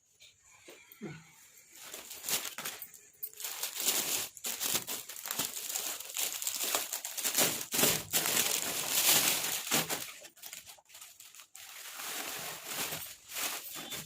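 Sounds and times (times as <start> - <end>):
plastic packaging crinkling: 1.7 - 14.0.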